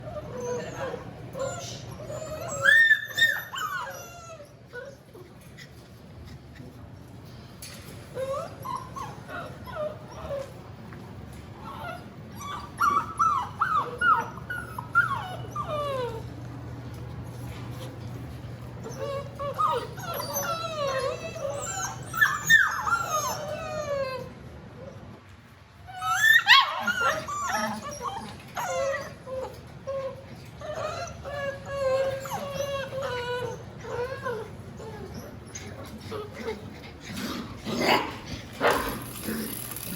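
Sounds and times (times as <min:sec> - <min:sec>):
puppies whining: 0:00.0 - 0:07.2, 0:07.8 - 0:25.1, 0:25.8 - 0:39.9.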